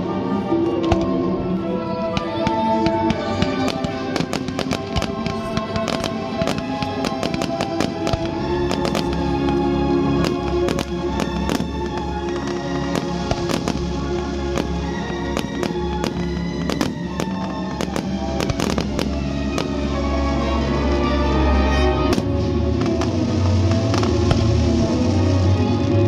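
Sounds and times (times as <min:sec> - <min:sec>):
fireworks bangs and crackles: 0:02.1 - 0:20.1, 0:22.0 - 0:26.0.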